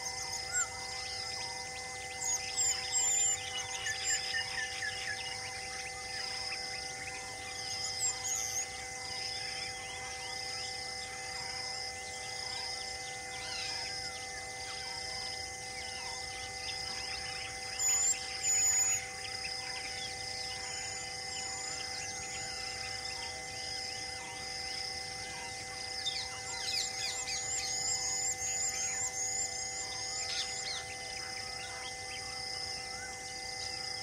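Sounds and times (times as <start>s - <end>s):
steady hum of even tones: 0.0s - 34.0s.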